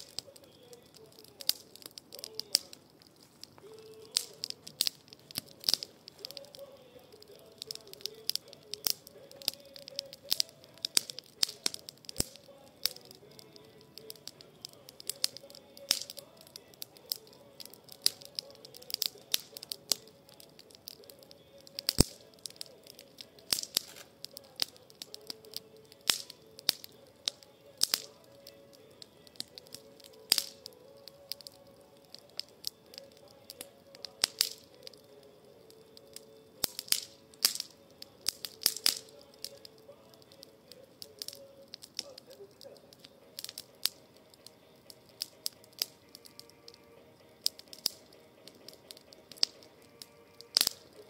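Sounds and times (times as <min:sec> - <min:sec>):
sharp pops and snaps: 0:00.0 - 0:51.0
wood fire crackling: 0:00.0 - 0:51.0.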